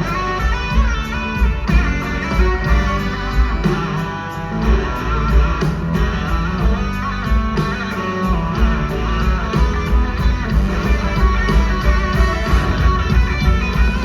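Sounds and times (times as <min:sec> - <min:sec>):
electric guitar: 0:00.0 - 0:14.0
rock band playing: 0:00.0 - 0:14.0.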